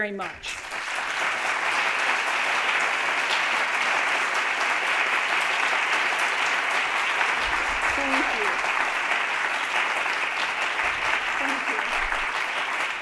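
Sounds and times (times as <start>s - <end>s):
audience applauding: 0.4s - 13.0s.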